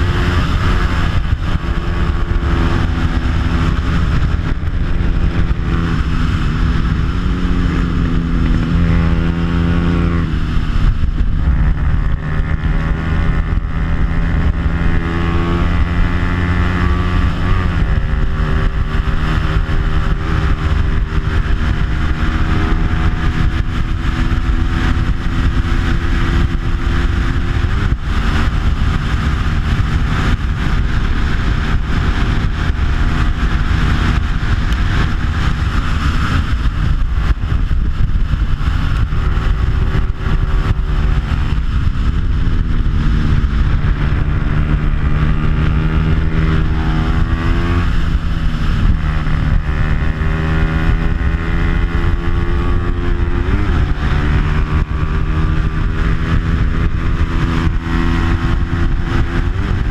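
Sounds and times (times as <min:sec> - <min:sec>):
motorcycle engine revving: 0:00.0 - 0:59.9
wind rushing on camera: 0:00.0 - 0:59.9.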